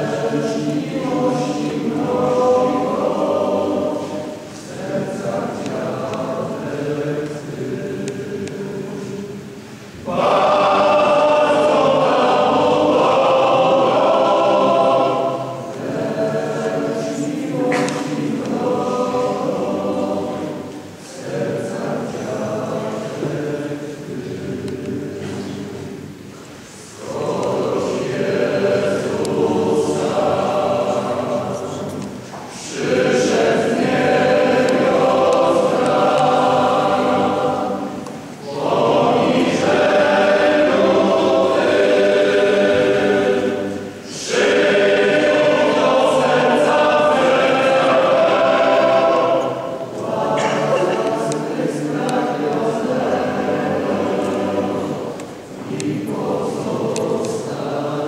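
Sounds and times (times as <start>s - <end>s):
male choir singing: 0.0s - 58.0s.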